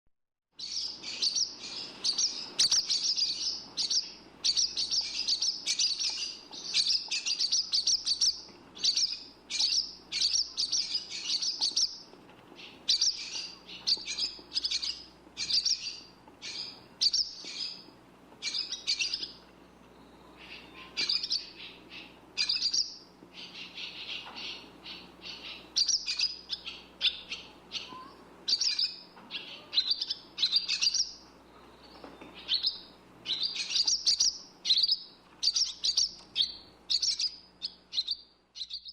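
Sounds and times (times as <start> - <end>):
swallow twittering: 0.6 - 19.4, 20.0 - 38.9.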